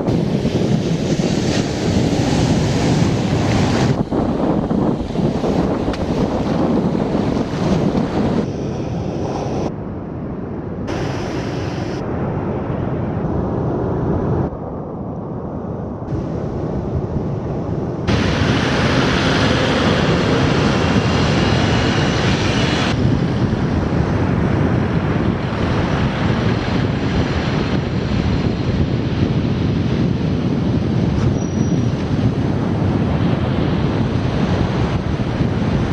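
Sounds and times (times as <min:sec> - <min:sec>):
surf on a beach: 0:00.0 - 0:14.8, 0:16.0 - 0:35.9
wind buffeting microphone: 0:00.0 - 0:35.9.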